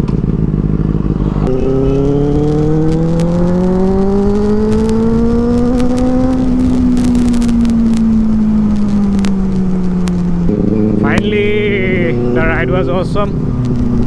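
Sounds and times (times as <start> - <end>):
motorcycle engine while riding: 0.0 - 14.0.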